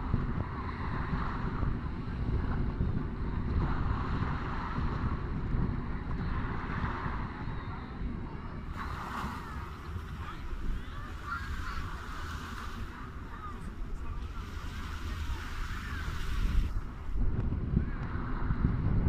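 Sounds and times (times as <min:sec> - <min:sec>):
waves lapping on sandy shore: 0:00.0 - 0:19.0
wind rumbling on microphone: 0:00.0 - 0:19.0.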